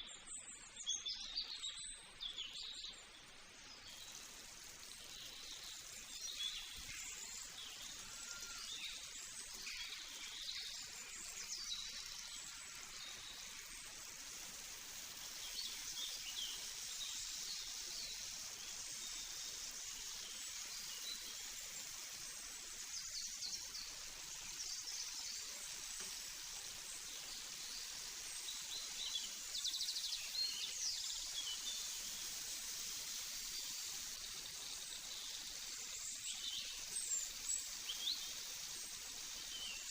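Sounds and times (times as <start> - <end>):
small birds chirping: 0.0 - 39.9
steady high hiss: 0.0 - 39.9.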